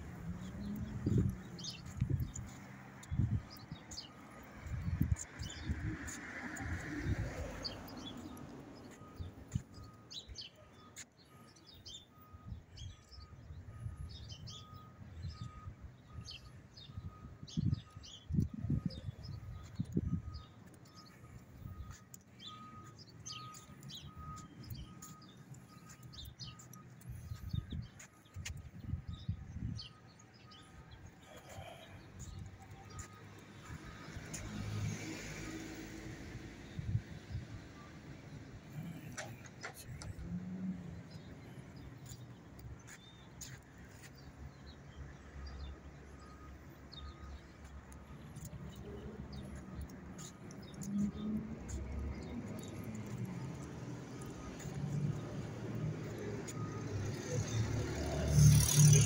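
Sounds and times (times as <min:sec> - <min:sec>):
small birds chirping: 0:00.0 - 0:06.2, 0:07.1 - 0:34.8, 0:38.5 - 0:59.0.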